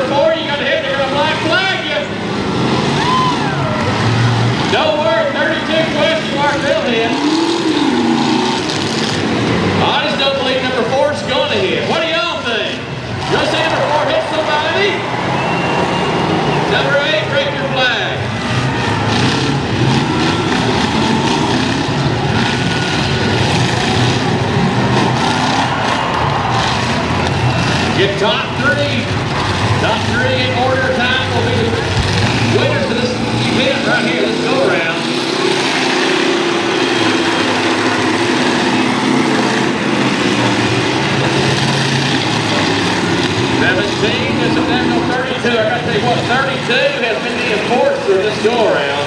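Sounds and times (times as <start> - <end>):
engines running and revving: 0.0 - 49.0.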